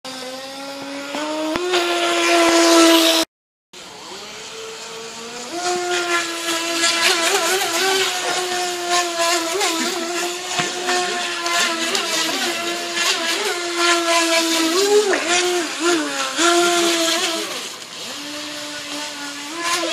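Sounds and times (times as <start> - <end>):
electric motor whining: 0.1 - 19.9.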